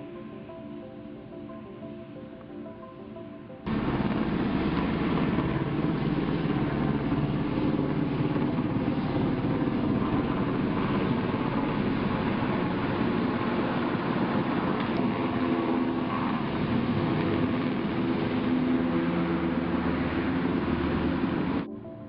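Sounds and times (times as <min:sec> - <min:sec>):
helicopter rotor and engine: 0:03.7 - 0:21.7.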